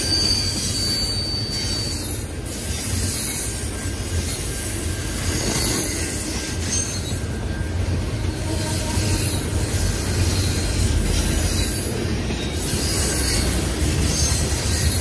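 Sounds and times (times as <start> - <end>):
high-pitched wheel squeals: 0.0 - 15.0
train wheels rumbling on rail: 0.0 - 15.0.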